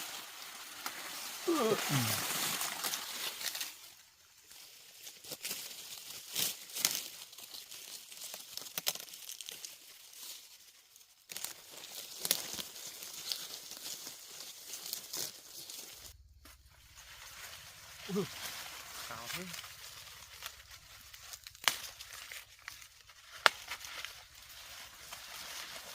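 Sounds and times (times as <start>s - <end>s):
corn plants rustling: 0.0s - 25.9s
leaves and husks snapping: 0.0s - 25.9s.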